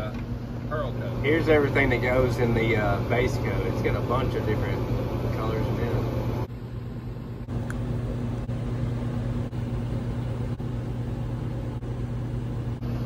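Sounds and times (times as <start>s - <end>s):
electric machinery humming: 0.0s - 13.0s.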